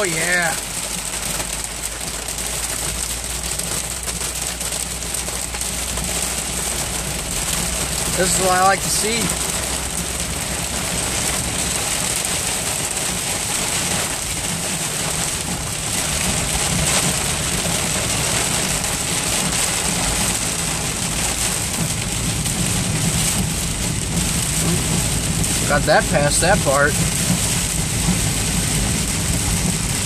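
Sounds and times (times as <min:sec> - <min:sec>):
rain and hail drumming on car roof: 0:00.0 - 0:30.0
tyres hissing on wet road: 0:00.0 - 0:30.0.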